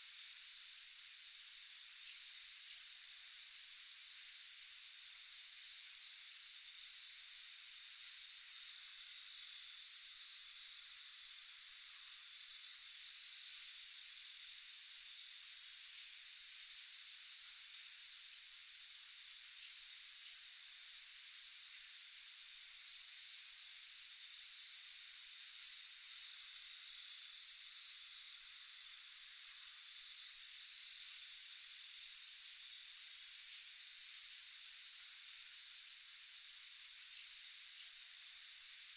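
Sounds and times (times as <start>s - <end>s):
crickets chirping: 0.1s - 38.9s.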